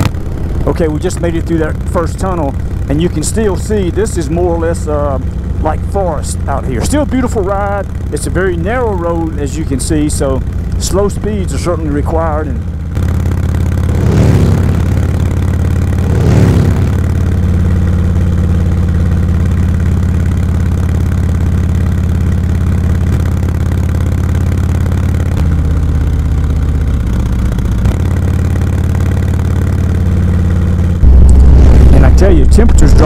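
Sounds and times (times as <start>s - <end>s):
motorcycle engine pulling: 0.0s - 30.9s.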